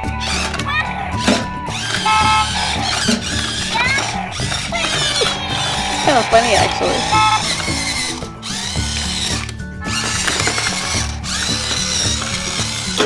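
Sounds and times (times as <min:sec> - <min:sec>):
music: 0:00.0 - 0:13.0
toy car motor whirring: 0:00.0 - 0:13.0.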